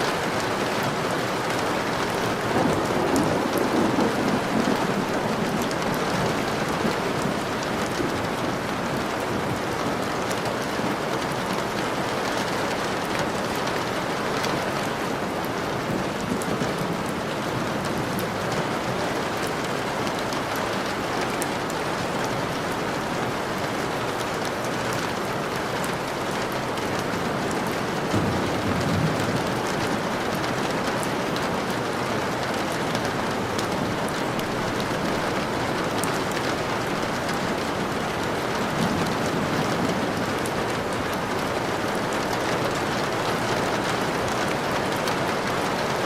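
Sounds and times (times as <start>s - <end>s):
heavy rain falling: 0.0s - 46.0s
raindrops ticking: 0.1s - 46.0s.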